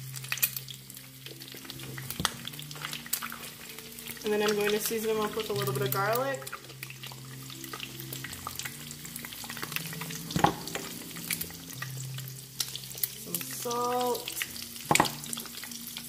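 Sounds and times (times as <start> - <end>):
eggs frying in oil: 0.0 - 16.0.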